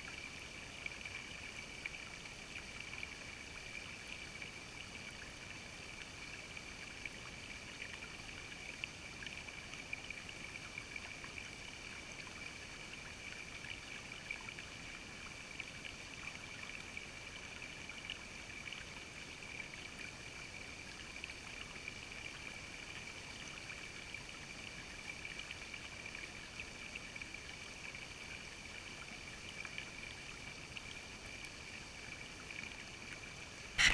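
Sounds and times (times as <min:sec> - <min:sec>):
creek water trickling over rocks: 0:00.0 - 0:33.9.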